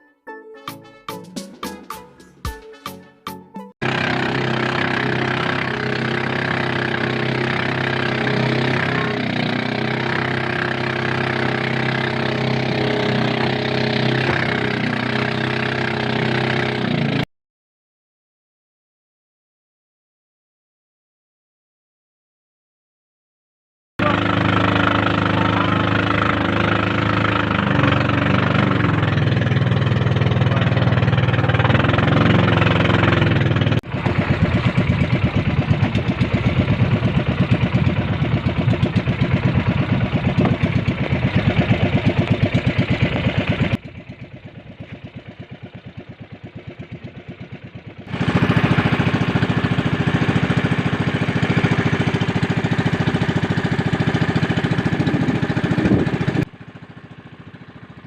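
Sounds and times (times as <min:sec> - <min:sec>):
motorboat engine running: 0:03.8 - 0:17.2, 0:24.0 - 0:58.0.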